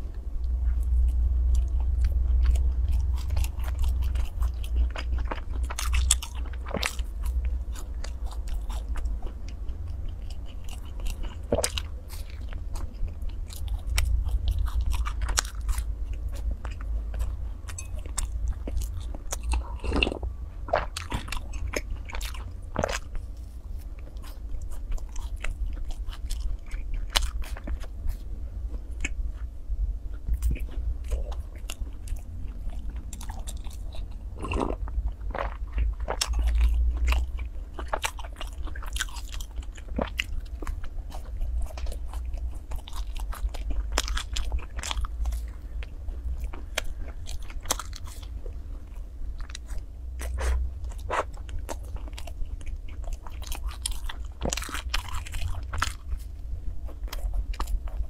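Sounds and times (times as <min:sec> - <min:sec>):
biting and chewing cake: 0:00.0 - 0:58.0
low hum: 0:00.0 - 0:58.0.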